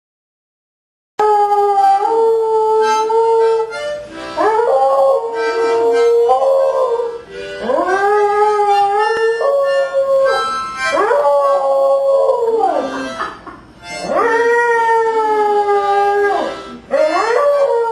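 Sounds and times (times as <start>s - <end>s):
dog howling: 1.2s - 13.2s, 14.0s - 17.9s
sustained musical notes: 2.8s - 17.9s.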